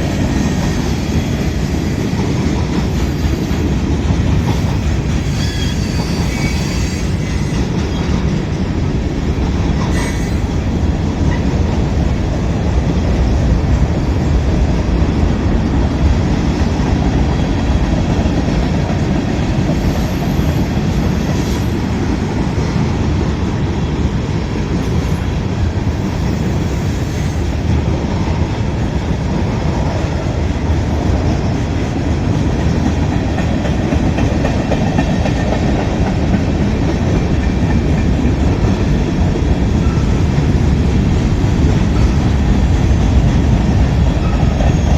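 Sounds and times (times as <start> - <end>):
train wheels clacking over rails: 0.0 - 44.9.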